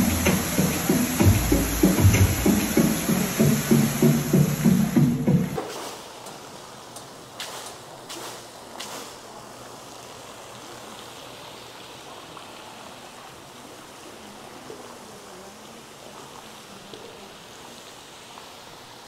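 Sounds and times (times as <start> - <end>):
water falling and splashing into pool: 0.0 - 19.0.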